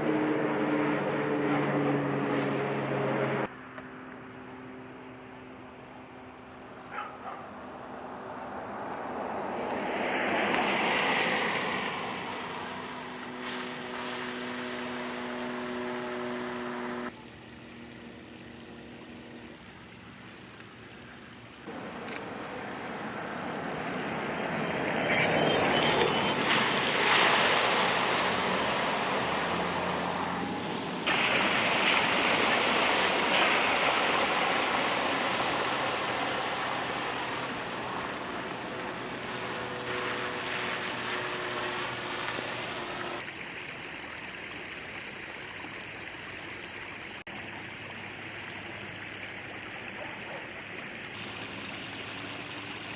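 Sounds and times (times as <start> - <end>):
engine hum: 0.0 - 52.9
tyres splashing through water: 6.8 - 17.9, 19.8 - 52.9.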